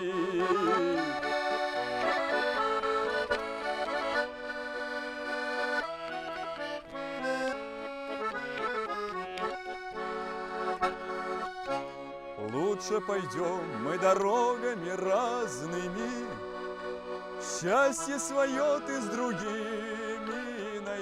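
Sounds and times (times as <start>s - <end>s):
button accordion playing: 0.0s - 21.0s.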